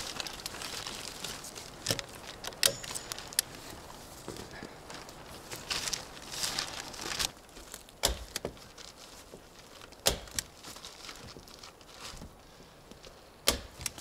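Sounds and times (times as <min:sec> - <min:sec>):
rustling crinkling handling noise: 0:00.0 - 0:14.0.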